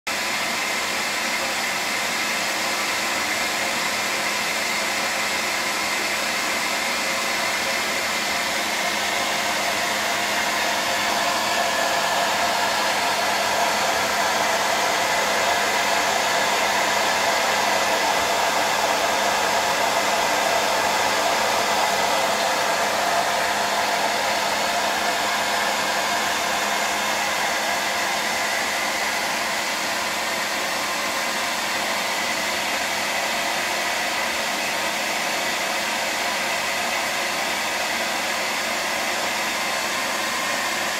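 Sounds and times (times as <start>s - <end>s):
electric blower whirring: 0.1s - 40.9s.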